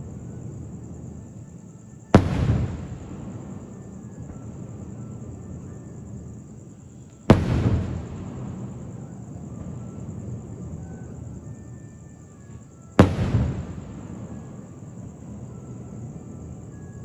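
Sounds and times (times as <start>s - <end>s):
firework bangs: 0.0s - 1.5s, 2.1s - 11.7s, 12.5s - 17.0s.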